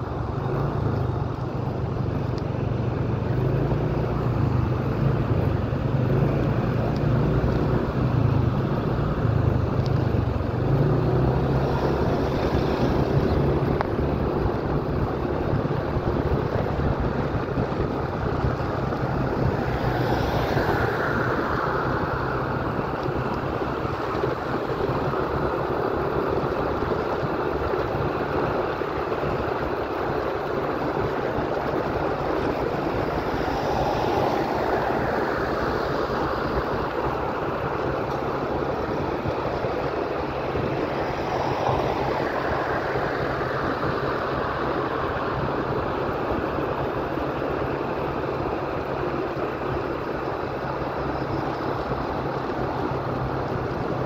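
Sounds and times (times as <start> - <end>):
tyre noise on road: 0.0 - 54.0
vehicle engine: 0.0 - 54.0
wind rush on microphone: 0.0 - 54.0.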